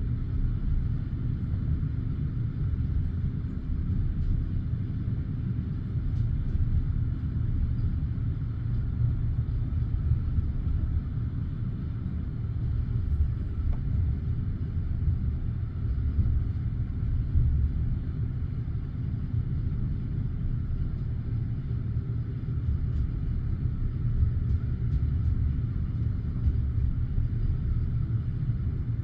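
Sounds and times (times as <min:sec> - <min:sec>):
train wheels rumbling on track: 0:02.6 - 0:29.0.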